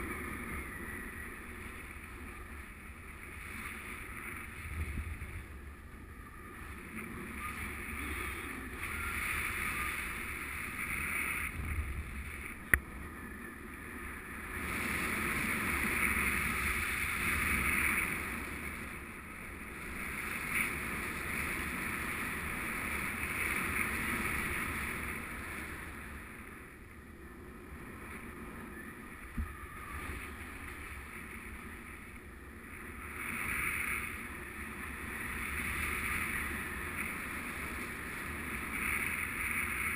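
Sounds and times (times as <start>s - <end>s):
airflow rushing over microphone: 0.0s - 39.9s.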